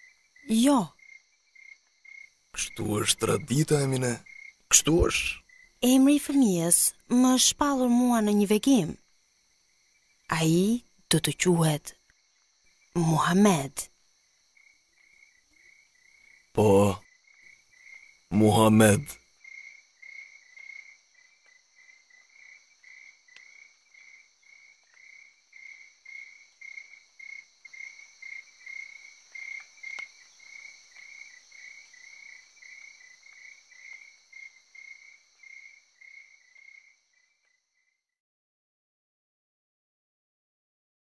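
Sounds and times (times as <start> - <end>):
high insect trill: 0.0 - 38.0
crickets chirping: 0.0 - 38.2.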